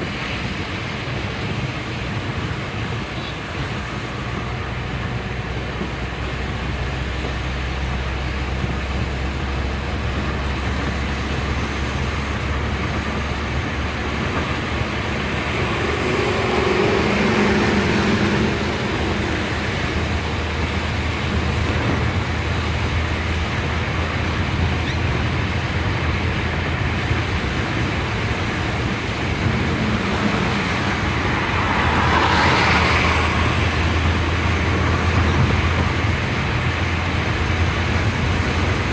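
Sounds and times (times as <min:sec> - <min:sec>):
car engine rumble: 0:00.0 - 0:38.9
tyre road noise: 0:00.0 - 0:38.9.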